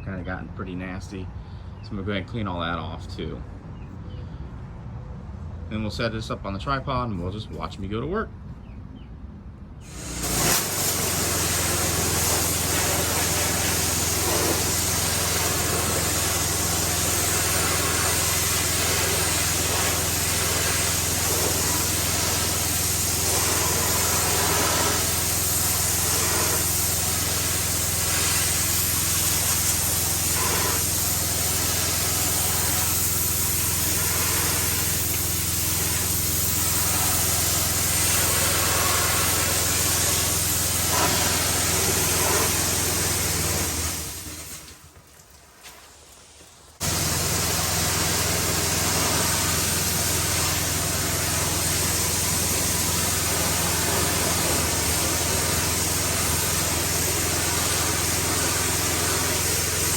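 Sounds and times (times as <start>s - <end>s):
pressure washer motor humming: 9.8s - 44.9s, 46.8s - 59.9s
high-pressure water spray hissing: 9.8s - 59.9s.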